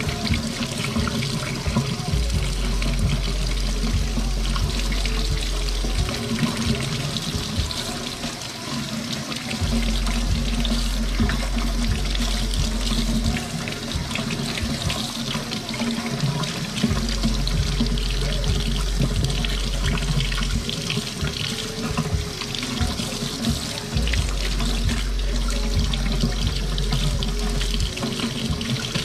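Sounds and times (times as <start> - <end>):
background music with steady beat: 0.0 - 29.0
faucet running water: 0.0 - 29.0.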